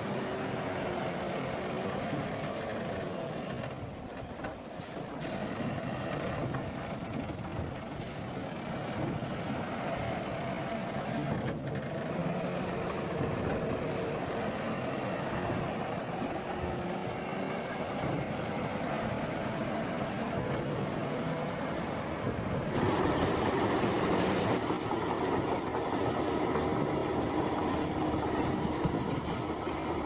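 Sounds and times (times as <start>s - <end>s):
diesel engine under load: 0.0s - 30.0s.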